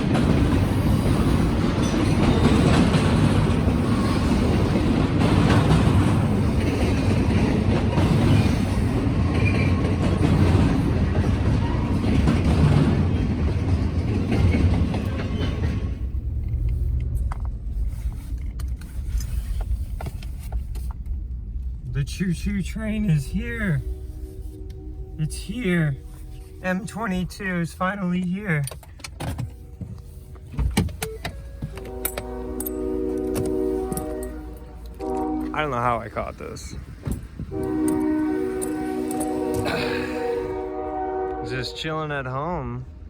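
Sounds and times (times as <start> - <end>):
freight train cars rolling past: 0.0 - 43.0.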